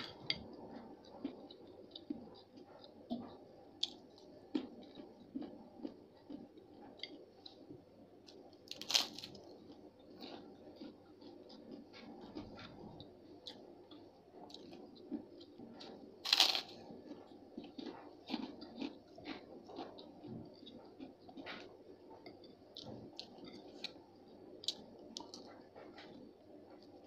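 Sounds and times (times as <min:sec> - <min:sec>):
person chewing crisp food: 0:00.0 - 0:27.0.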